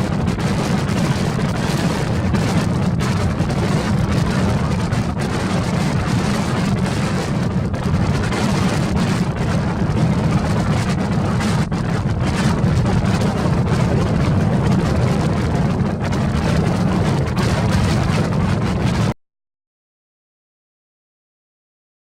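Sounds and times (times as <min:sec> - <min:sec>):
wind buffeting microphone: 0:00.0 - 0:19.2.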